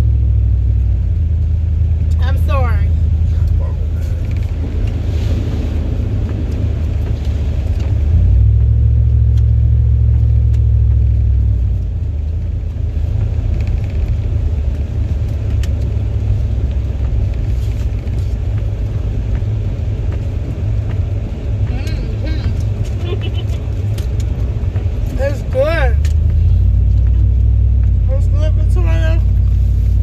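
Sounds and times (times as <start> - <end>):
road and engine rumble in car: 0.0 - 30.0.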